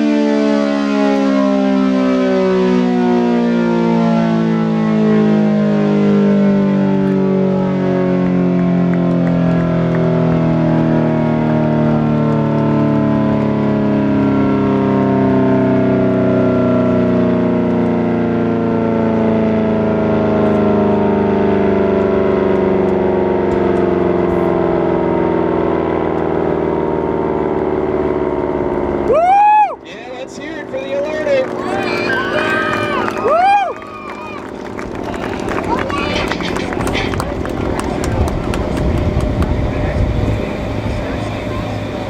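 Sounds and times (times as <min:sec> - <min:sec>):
warning siren winding down: 0:00.0 - 0:42.0.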